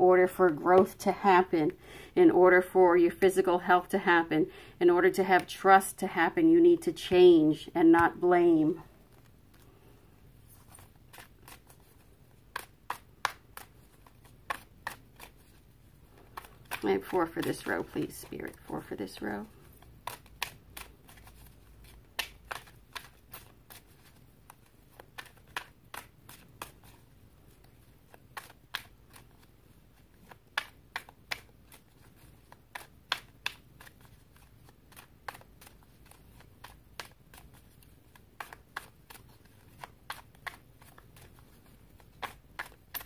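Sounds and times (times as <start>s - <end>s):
cards shuffled by hand: 6.4s - 43.0s.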